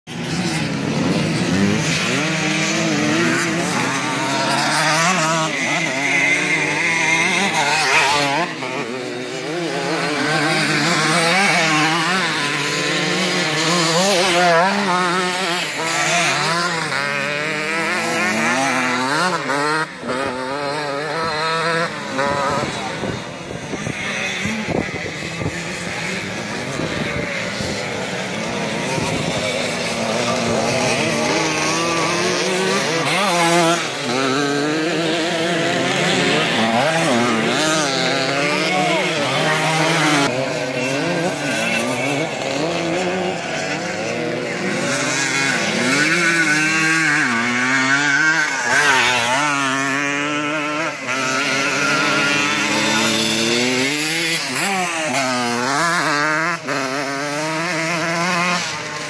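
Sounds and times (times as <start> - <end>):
motocross bike engines racing: 0.0 - 59.0.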